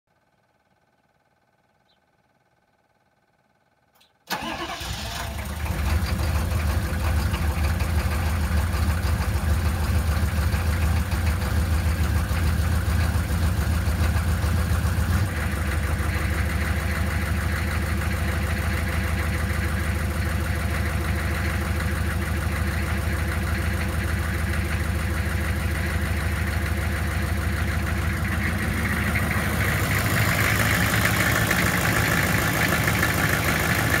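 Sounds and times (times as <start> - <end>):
engine running: 4.3 - 34.0.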